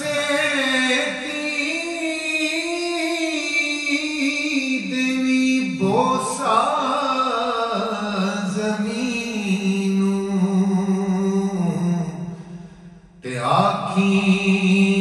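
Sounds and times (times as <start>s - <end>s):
man singing unaccompanied: 0.0s - 12.4s, 13.2s - 15.0s.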